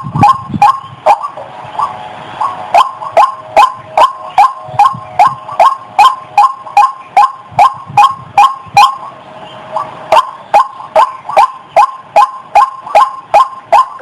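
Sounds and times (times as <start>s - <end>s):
rail bird calling short sharp notes: 0.0s - 14.0s.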